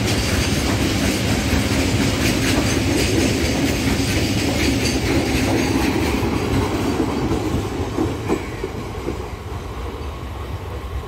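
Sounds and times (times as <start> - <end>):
train wheels clacking over rail joints: 0.0 - 9.6.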